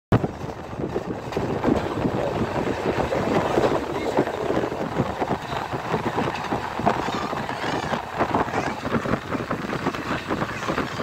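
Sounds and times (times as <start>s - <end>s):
train rattling and clatter: 0.1s - 11.0s
train rumble: 0.1s - 11.0s
wind on microphone: 0.1s - 11.0s.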